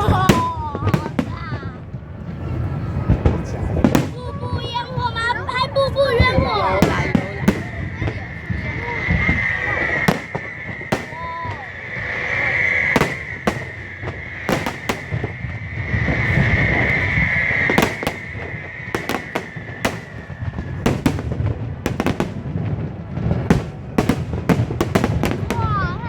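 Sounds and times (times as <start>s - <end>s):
continuous high hiss: 0.0s - 26.0s
fireworks bangs: 0.0s - 26.0s.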